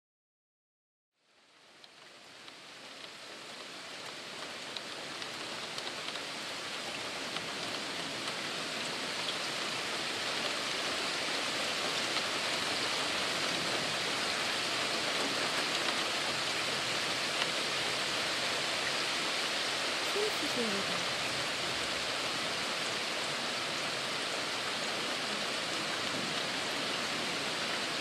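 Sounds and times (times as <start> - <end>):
steady rain falling: 1.2 - 28.0.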